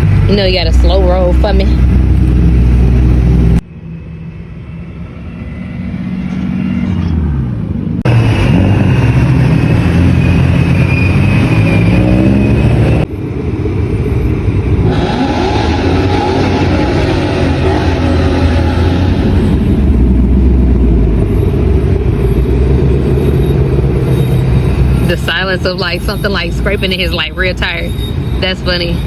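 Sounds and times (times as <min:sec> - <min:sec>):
car engine and exhaust: 0:00.0 - 0:29.0.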